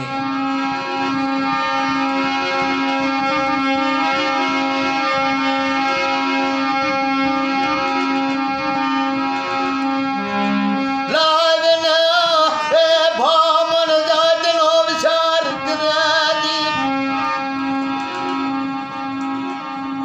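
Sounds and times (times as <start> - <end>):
held keyboard notes: 0.0 - 20.0.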